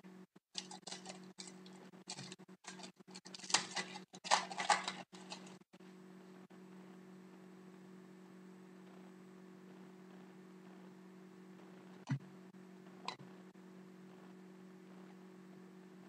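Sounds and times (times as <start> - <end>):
faint low hum: 0.1 - 16.0.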